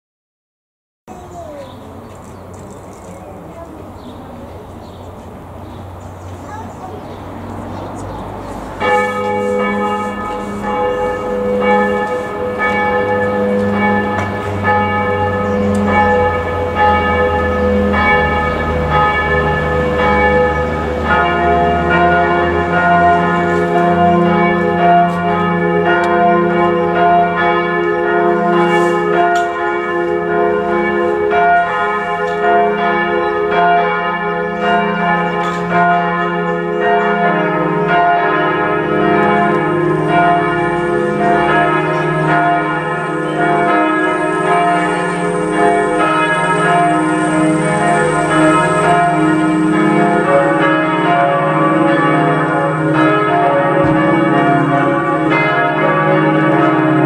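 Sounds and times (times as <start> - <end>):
church bells ringing a peal: 1.1 - 57.0.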